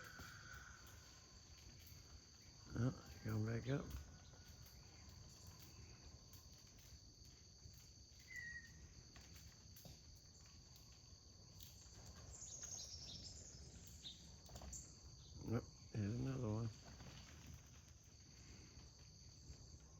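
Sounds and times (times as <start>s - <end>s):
crickets trilling: 0.0s - 19.9s.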